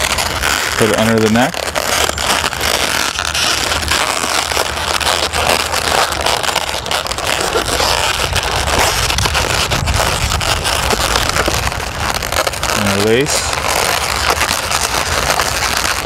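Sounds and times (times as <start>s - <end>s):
balloons crackling and rubbing: 0.0s - 16.0s
steady low rumble: 0.0s - 16.0s.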